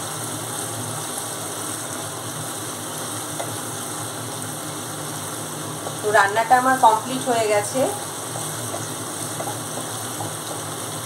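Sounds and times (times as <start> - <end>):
gravy sizzling in a frying pan: 0.0 - 11.0.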